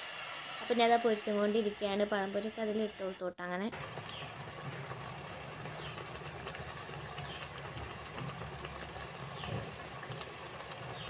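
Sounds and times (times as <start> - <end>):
deep-frying sizzle with crackles: 0.0 - 11.0.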